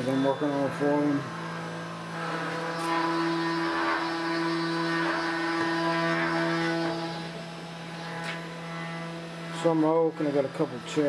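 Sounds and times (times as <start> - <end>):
engraver spindle hum and whine: 0.0 - 11.0.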